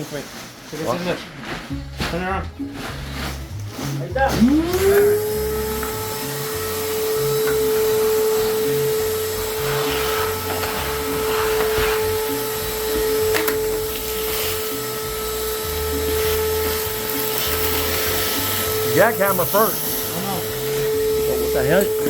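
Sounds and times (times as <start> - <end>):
vacuum cleaner whining: 1.7 - 22.0.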